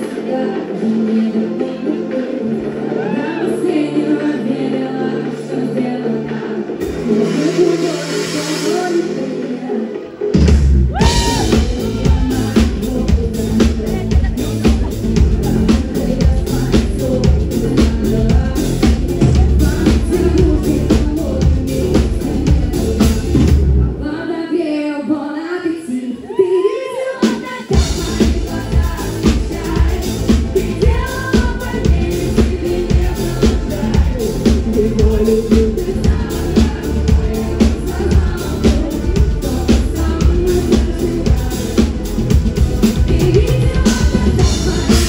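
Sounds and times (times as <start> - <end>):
live pop band: 0.0 - 45.0
woman singing: 0.0 - 45.0.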